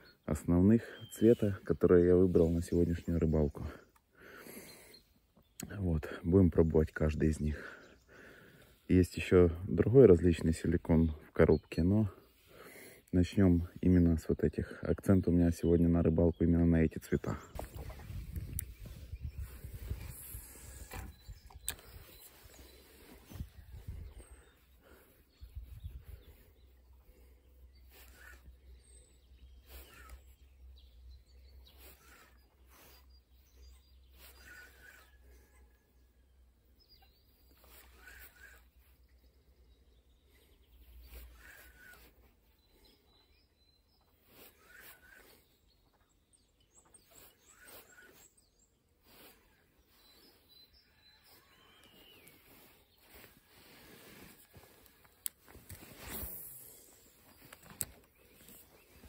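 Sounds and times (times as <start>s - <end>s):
faint bird chirps: 0.0s - 59.0s.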